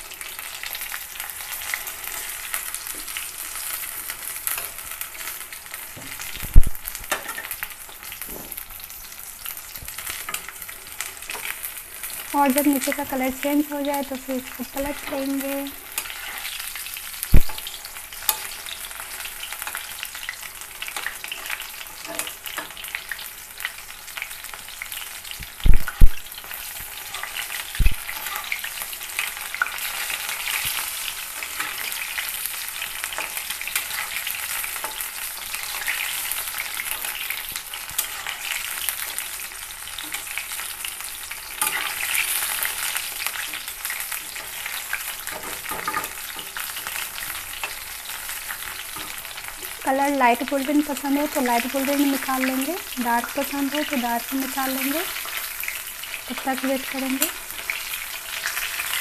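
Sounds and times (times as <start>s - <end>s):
food deep-frying in oil: 0.0s - 59.0s.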